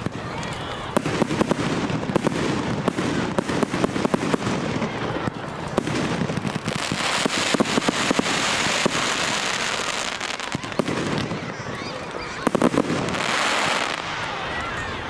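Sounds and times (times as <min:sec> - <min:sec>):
fireworks hiss: 0:00.0 - 0:14.3
fireworks bangs and pops: 0:00.0 - 0:14.8.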